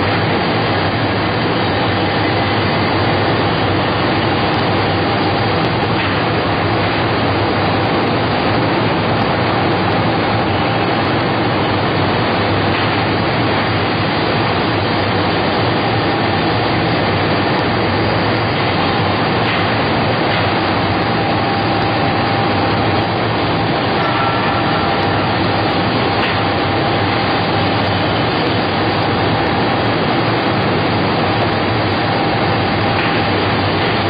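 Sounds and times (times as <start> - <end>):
faint constant whine: 0.0 - 34.0
machine mechanical roar: 0.0 - 34.0.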